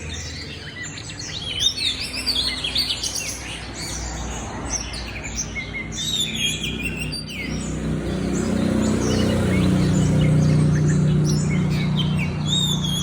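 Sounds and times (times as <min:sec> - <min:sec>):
songbirds chirping and calling: 0:00.0 - 0:13.0.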